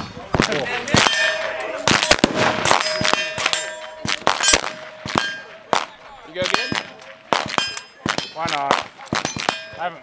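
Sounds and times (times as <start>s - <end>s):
gunshots: 0.3s - 9.8s
steel targets clanging: 0.9s - 10.0s.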